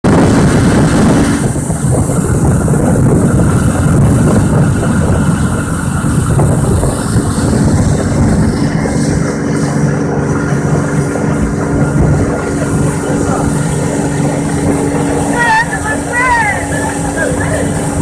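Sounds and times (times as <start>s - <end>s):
boat engine droning: 0.0s - 18.0s
water rushing past hull: 0.0s - 18.0s
wind: 0.0s - 18.0s.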